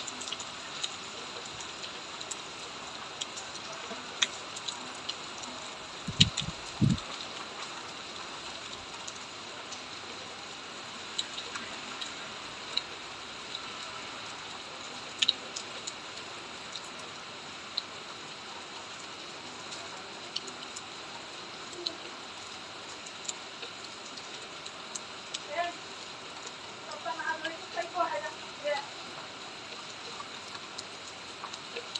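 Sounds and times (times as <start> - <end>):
steady rain hiss: 0.0 - 31.9.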